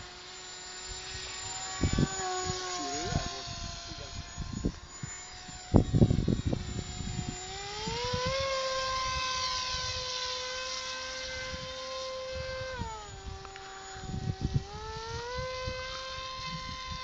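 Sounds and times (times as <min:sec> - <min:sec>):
electric motor and propeller whining: 0:00.0 - 0:17.0
wind buffeting microphone: 0:01.7 - 0:10.4, 0:11.2 - 0:17.0.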